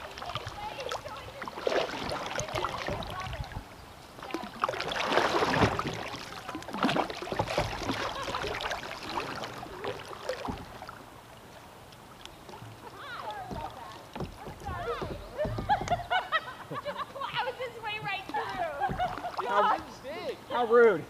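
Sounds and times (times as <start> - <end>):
paddle splashing in water: 0.0 - 20.2.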